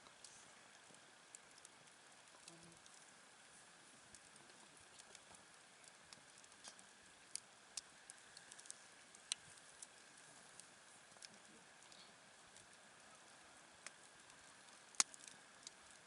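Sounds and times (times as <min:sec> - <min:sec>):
campfire crackling and popping: 0:00.0 - 0:16.0
soft steady hiss: 0:00.0 - 0:16.0.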